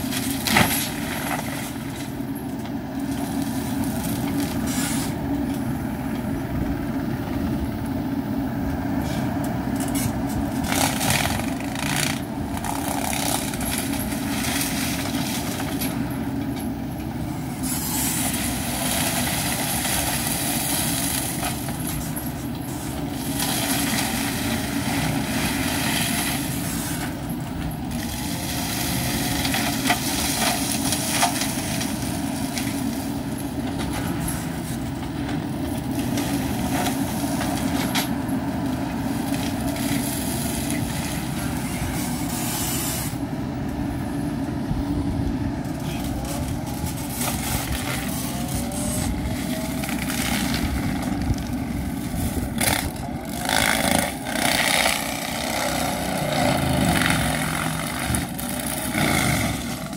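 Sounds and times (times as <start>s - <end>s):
diesel engine running under load: 0.0s - 59.9s
mulcher shredding brush: 0.0s - 59.9s.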